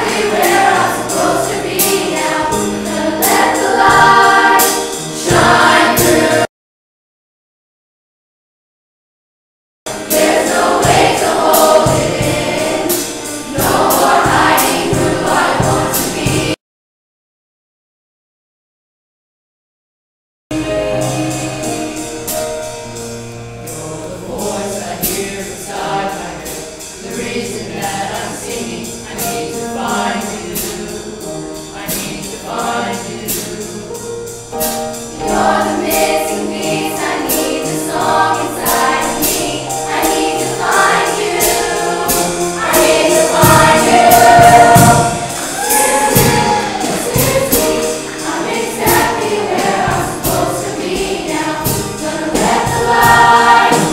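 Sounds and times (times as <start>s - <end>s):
accompanying music with steady beat: 0.0s - 6.5s, 9.9s - 16.6s, 20.5s - 53.9s
choir singing: 0.0s - 6.5s, 9.9s - 16.6s, 20.5s - 23.0s, 23.6s - 53.9s.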